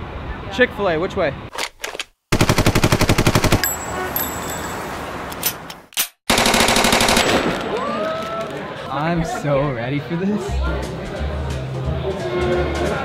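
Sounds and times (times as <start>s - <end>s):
street noise: 0.0s - 2.2s, 3.0s - 13.0s.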